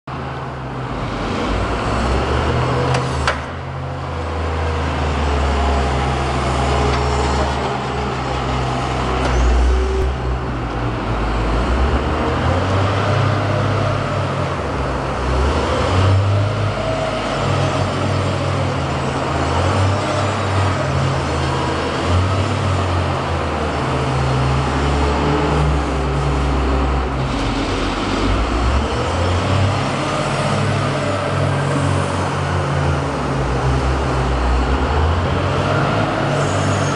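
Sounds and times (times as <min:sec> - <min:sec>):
diesel engine revving: 0:00.2 - 0:36.9.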